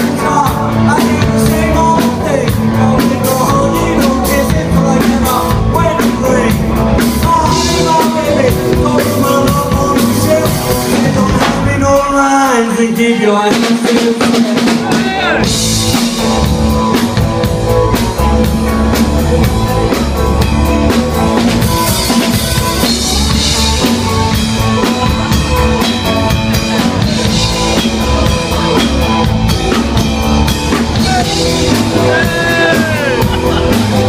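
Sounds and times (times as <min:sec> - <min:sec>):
amplified electric guitars: 0:00.0 - 0:13.6, 0:14.2 - 0:34.0
drum kit beating: 0:00.0 - 0:34.0.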